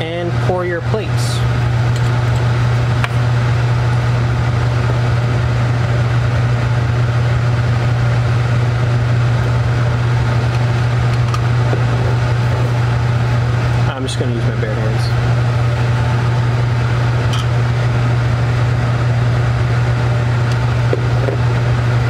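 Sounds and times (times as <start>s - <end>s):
blower fan humming: 0.0s - 22.0s.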